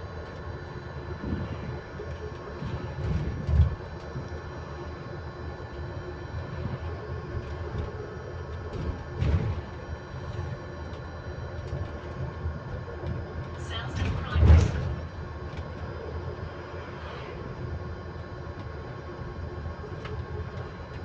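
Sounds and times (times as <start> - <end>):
electric bus motor whine: 0.0 - 21.0.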